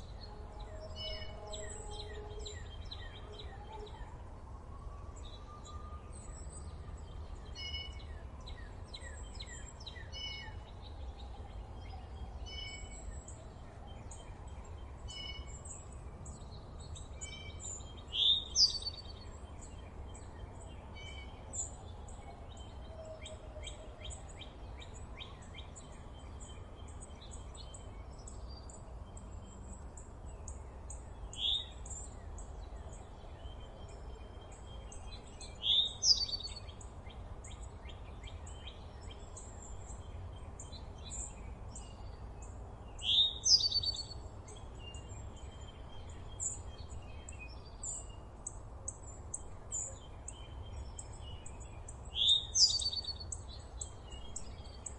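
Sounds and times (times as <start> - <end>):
birds chirping and singing: 0.0 - 4.3, 5.2 - 54.9.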